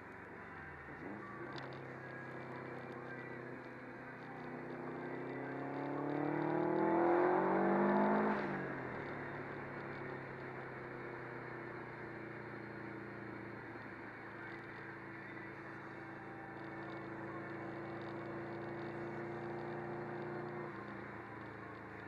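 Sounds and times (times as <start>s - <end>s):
car engine cruising: 0.0s - 22.0s
road noise: 0.0s - 22.0s.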